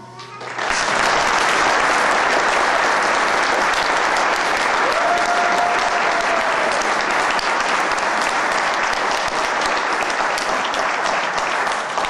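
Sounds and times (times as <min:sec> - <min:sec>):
audience applause: 0:00.2 - 0:12.0.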